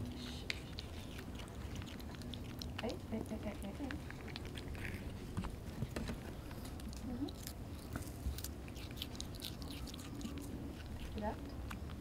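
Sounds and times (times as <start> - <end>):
monkeys chewing fruit crunching: 0.0 - 12.0.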